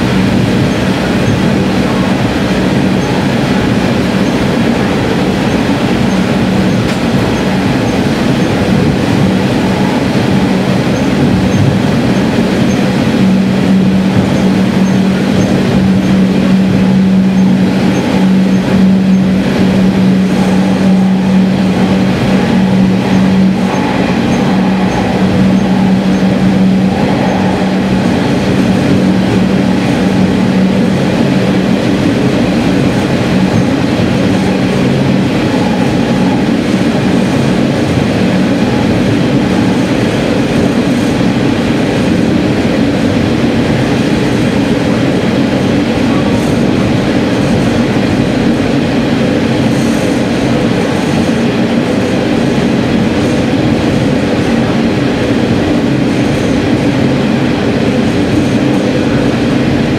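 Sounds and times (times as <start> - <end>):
diesel railcar engine drone: 0.0 - 59.9
engine hum: 0.0 - 59.9
wheel-on-rail noise: 0.0 - 59.9.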